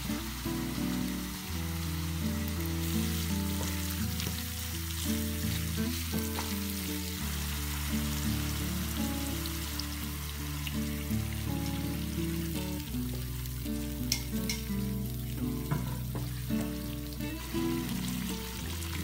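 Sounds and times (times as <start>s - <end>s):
instrumental background music: 0.0s - 19.0s
sauce sizzling in frying pan: 0.0s - 19.0s.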